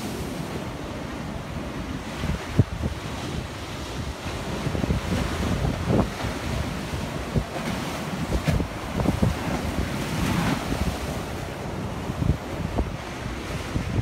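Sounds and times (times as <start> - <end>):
sea surf breaking on seawall: 0.0 - 14.0
wave crashing and splashing: 0.0 - 14.0
wind buffeting microphone: 1.5 - 14.0.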